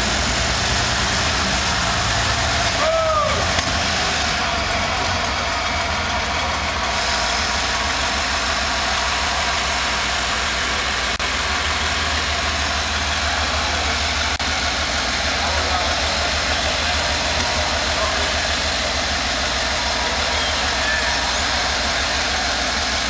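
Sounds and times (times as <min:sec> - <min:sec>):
engine idling low rumble: 0:00.0 - 0:23.0.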